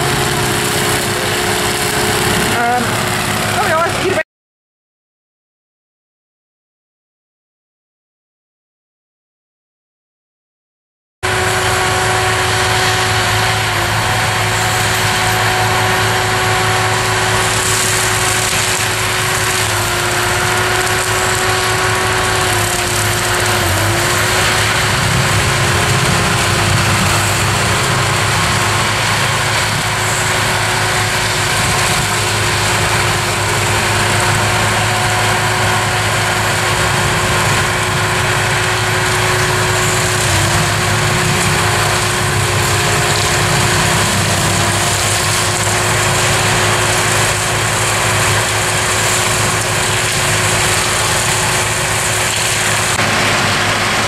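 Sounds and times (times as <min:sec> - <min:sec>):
tractor driving mulcher grinding wood: 0:00.0 - 0:04.2, 0:11.2 - 0:54.0.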